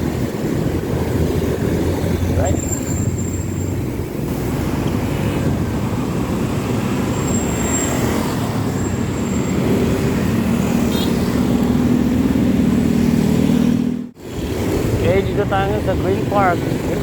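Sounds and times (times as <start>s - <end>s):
traffic rumble: 0.0s - 17.0s
vehicle engine hum: 0.0s - 17.0s.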